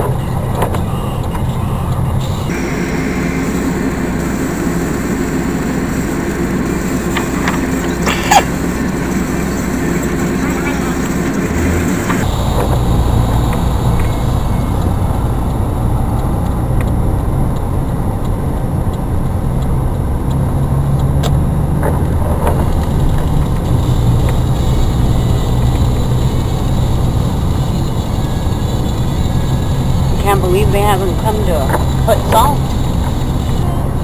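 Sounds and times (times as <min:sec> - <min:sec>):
car driving on snowy road: 0:00.0 - 0:34.0.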